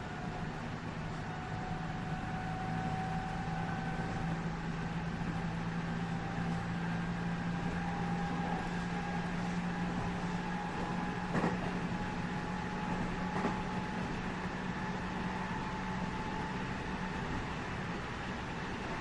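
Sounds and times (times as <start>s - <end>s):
train motor hum: 0.0s - 19.0s.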